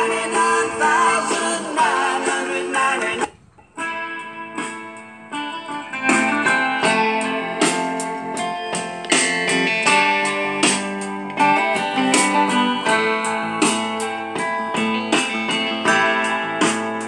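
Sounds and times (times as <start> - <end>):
plucked guitar tune through small speaker: 0.0 - 17.0.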